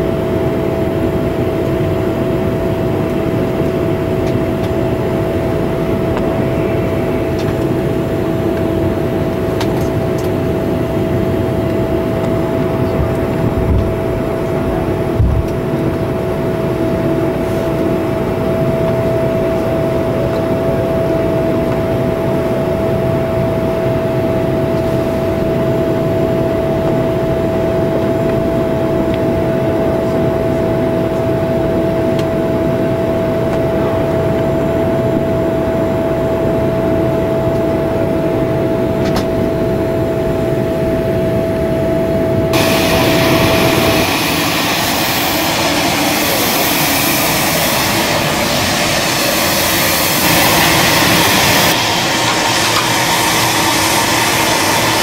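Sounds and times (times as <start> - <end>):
jet engines idling whine: 0.0 - 55.0.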